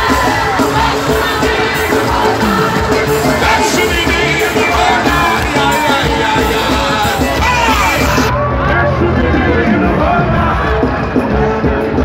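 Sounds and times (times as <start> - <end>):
congregation cheering and shouting: 0.0 - 12.0
people singing: 0.0 - 12.0
worship band playing: 0.0 - 12.0.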